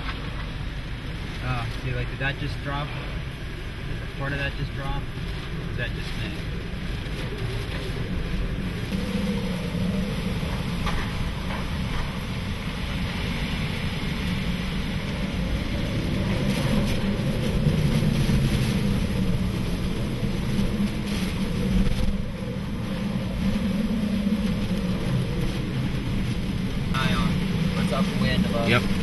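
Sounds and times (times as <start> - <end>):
rain: 0.0 - 29.0
rushing wind: 0.0 - 29.0
wind howling through power lines: 0.0 - 29.0.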